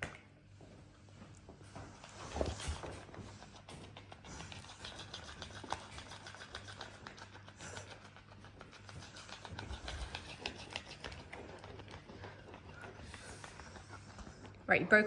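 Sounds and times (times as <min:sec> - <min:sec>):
dog chewing fabric toy: 0:01.6 - 0:14.6.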